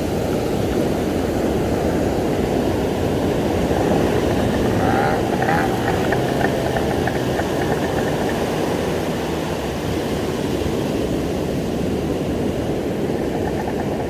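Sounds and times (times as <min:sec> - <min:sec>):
wind on microphone: 0:00.0 - 0:14.0
breaking surf: 0:00.8 - 0:13.9
faint rapid ticking: 0:01.3 - 0:14.0.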